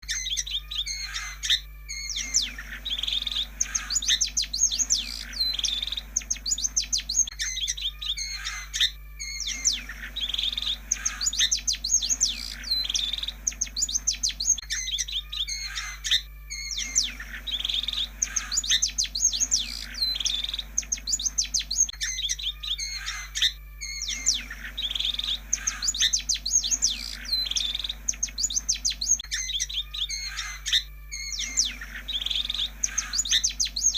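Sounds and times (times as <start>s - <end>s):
bird chirps and whistles: 0.0s - 33.9s
steady low hum: 0.0s - 33.9s.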